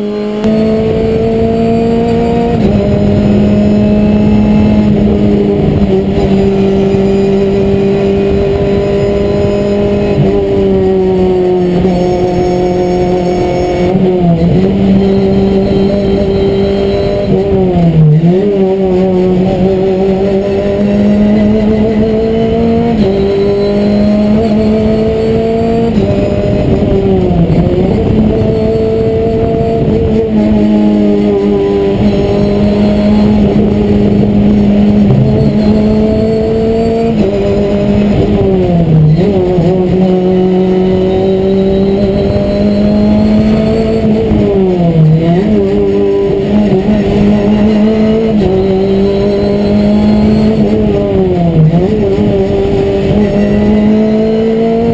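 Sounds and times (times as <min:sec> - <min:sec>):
race car engine at full throttle: 0:00.0 - 0:54.9.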